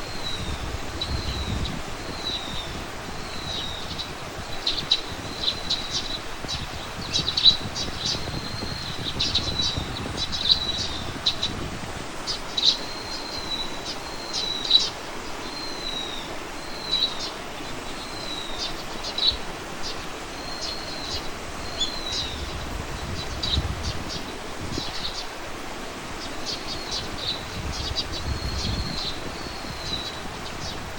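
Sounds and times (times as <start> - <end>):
wild birds chirping: 0.0 - 30.9.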